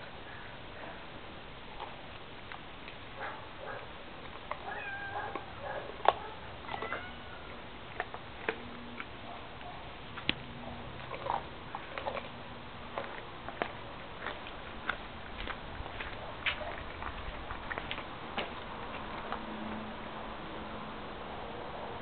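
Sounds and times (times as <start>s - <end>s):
dog crunching bones: 1.6s - 20.1s.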